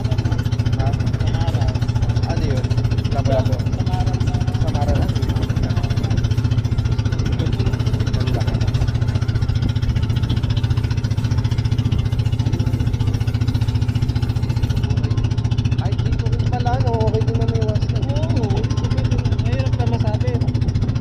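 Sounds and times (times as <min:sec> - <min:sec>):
boat engine droning: 0:00.0 - 0:21.0
water rushing along hull: 0:00.0 - 0:21.0.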